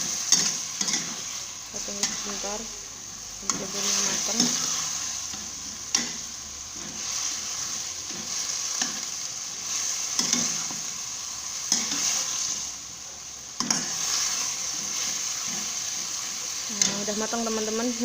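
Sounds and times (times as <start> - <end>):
spatula scraping a pan: 0.0 - 2.6, 3.4 - 11.0, 11.6 - 12.7, 13.6 - 17.5
vegetables sizzling in a pan: 0.0 - 18.0.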